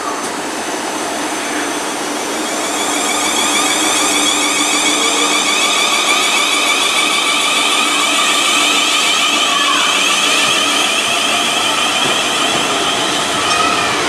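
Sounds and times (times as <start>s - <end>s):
electric train motor whine: 0.5s - 14.0s
low gliding tone: 2.1s - 14.0s.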